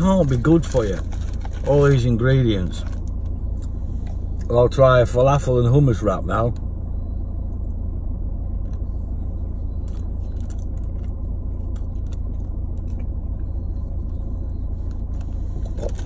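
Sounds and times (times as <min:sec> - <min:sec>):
car idling: 0:00.0 - 0:16.0.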